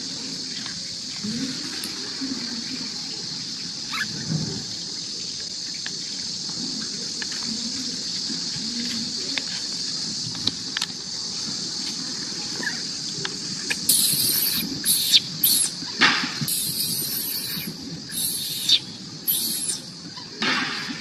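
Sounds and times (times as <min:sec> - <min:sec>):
high-pitched outdoor hiss: 0:00.0 - 0:21.0.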